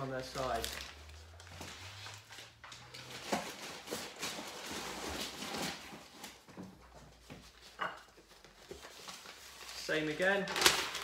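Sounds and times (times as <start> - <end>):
packing paper rustling: 0.0 - 6.5, 7.4 - 11.0.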